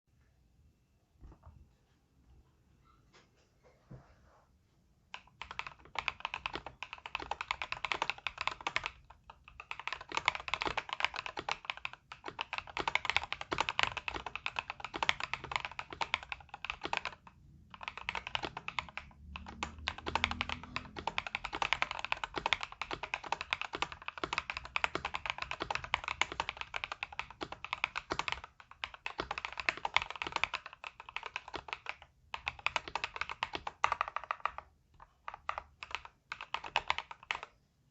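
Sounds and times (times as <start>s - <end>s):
fast typing on mechanical keyboard: 5.1s - 37.6s.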